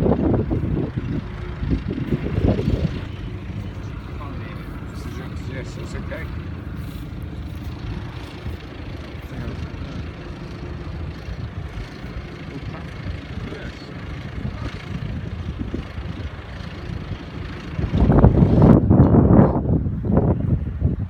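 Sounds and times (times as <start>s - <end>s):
diesel tractor engines droning: 0.0s - 21.0s.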